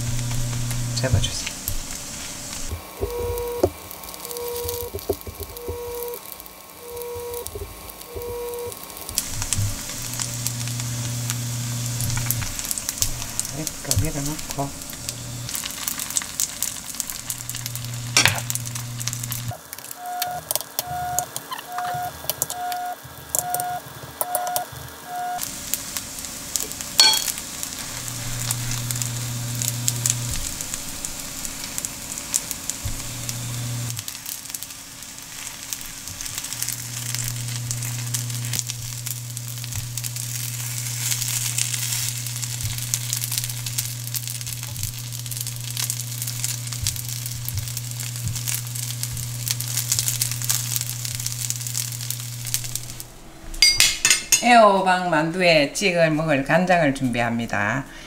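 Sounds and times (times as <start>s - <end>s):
patties sizzling in oil: 0.0s - 54.5s.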